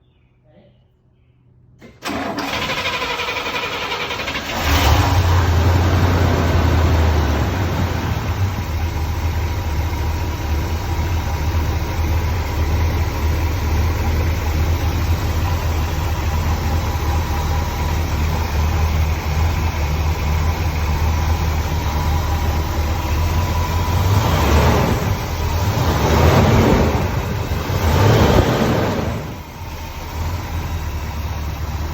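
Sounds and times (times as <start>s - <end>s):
engine starting and idling: 1.8s - 31.9s
engine revving: 2.0s - 31.9s.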